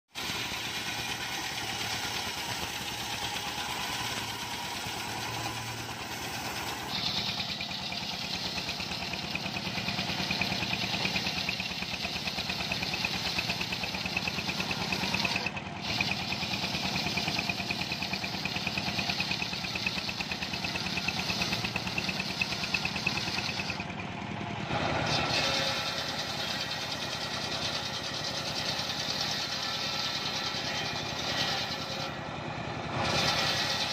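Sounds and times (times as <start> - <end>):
sawmill engine pulsing: 0.1 - 33.9
saw blade cutting wood hiss: 0.2 - 23.8, 25.0 - 32.2, 33.0 - 33.9.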